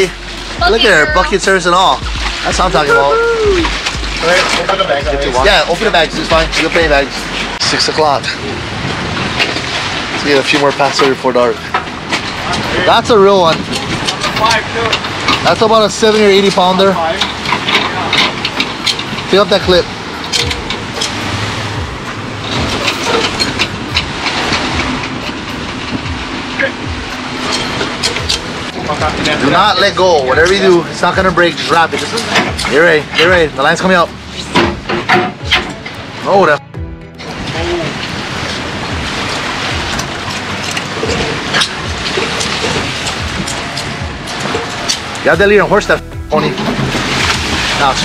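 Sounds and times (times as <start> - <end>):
boat engine running: 0.0 - 48.0
water splashes: 0.0 - 48.0
wind and water rushing: 0.0 - 48.0.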